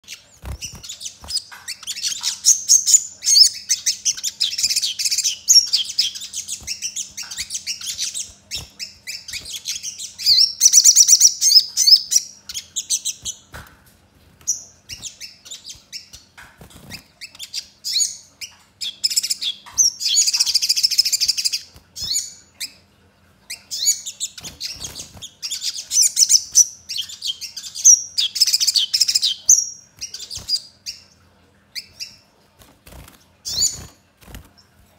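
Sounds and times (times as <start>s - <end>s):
bird twittering and trilling: 0.0s - 13.6s, 14.4s - 22.8s, 23.5s - 34.8s.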